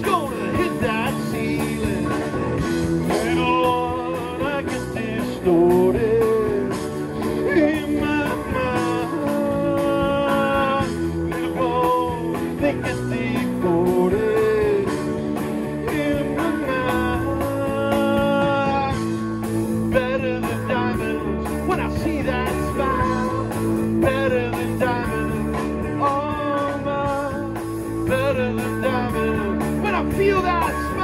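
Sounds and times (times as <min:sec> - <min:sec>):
person singing: 0:00.0 - 0:02.4, 0:03.0 - 0:15.1, 0:15.8 - 0:19.2, 0:19.8 - 0:31.0
blues-rock band playing: 0:00.0 - 0:31.0.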